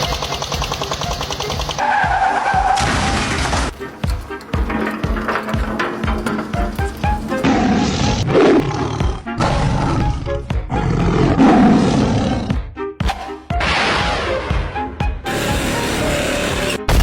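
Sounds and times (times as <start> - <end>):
cartoon background music: 0.0 - 17.0.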